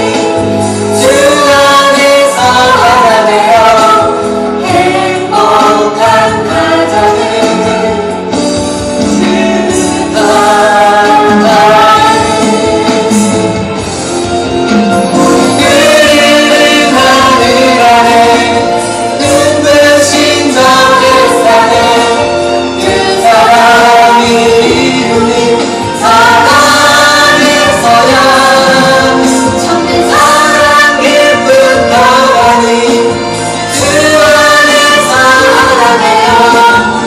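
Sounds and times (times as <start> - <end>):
voices singing praise song: 0.0 - 8.4, 9.2 - 13.8, 14.9 - 37.0
instrumental accompaniment: 0.0 - 37.0.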